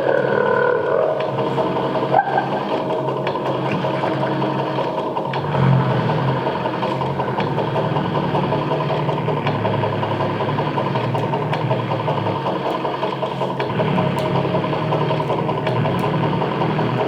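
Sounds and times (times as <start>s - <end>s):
engine-like rumbling drone: 0.0s - 17.0s
low hum: 0.0s - 17.0s.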